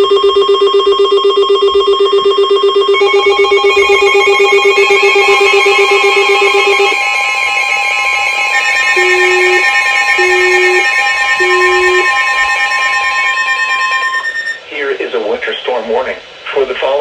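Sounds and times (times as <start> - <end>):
rapidly pulsing alert tone: 0.0 - 14.6
steady high alarm tone: 0.0 - 14.6.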